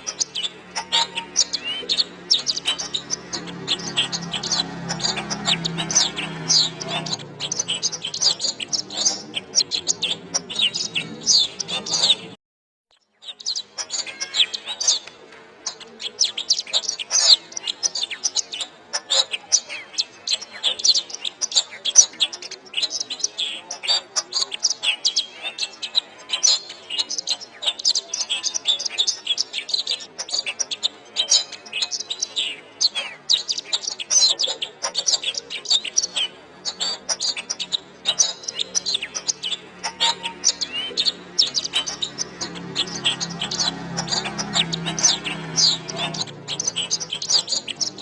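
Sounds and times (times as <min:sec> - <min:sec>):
canary singing: 0:00.0 - 0:48.0.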